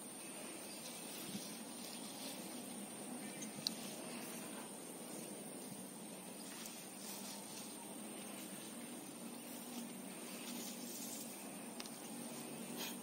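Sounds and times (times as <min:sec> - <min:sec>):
outdoor background hiss: 0:00.0 - 0:13.0
rustling of leafy vines: 0:00.0 - 0:13.0.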